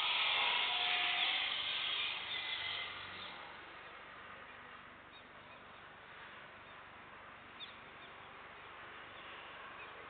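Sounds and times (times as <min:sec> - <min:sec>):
faint outdoor hiss: 0:00.0 - 0:10.0.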